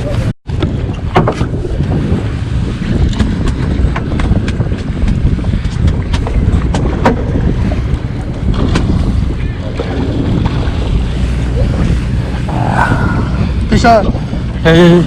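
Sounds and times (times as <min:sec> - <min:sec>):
boat engine: 0:00.0 - 0:15.0
wind on microphone: 0:00.0 - 0:15.0.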